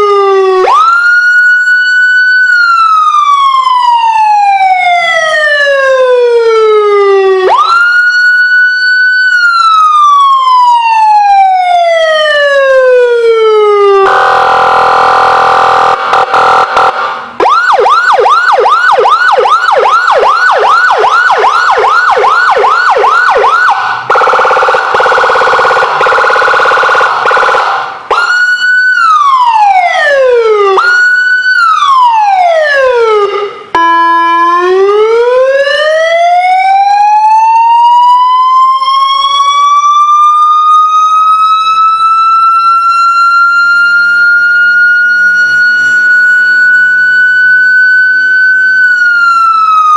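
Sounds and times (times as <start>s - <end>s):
electronic siren: 0.0s - 49.9s.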